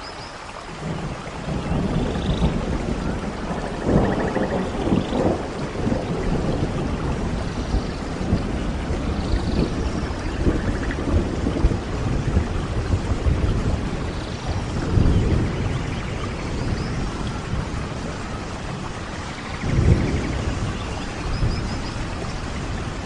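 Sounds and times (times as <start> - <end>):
heavy rain: 0.0 - 23.0
low thunder rumbling: 0.7 - 23.0.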